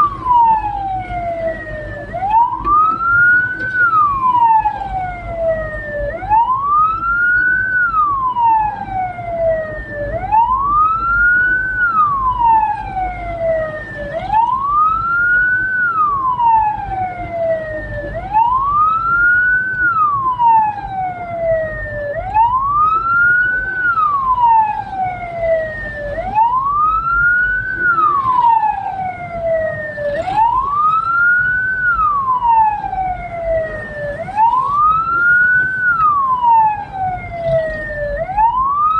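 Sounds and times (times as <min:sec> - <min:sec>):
low vehicle rumble: 0:00.0 - 0:38.9
siren wailing: 0:00.0 - 0:38.9.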